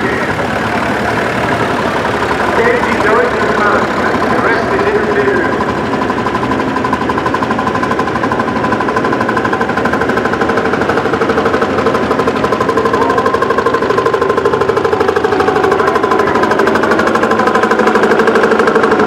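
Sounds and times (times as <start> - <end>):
tractor engine exhaust beats: 0.0 - 19.0.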